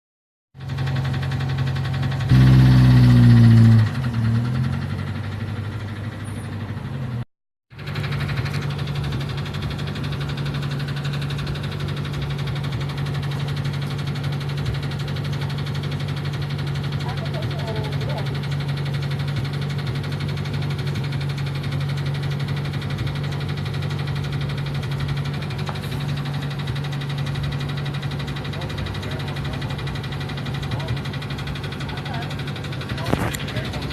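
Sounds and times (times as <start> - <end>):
engine with rhythmic rod knock: 0.6 - 33.9.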